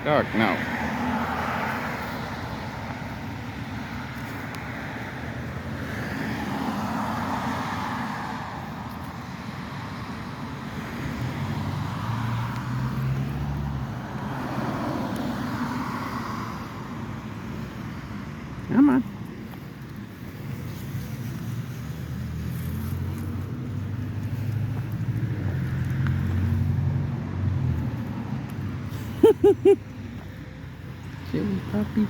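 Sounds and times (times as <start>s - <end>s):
cars passing: 0.0s - 32.0s.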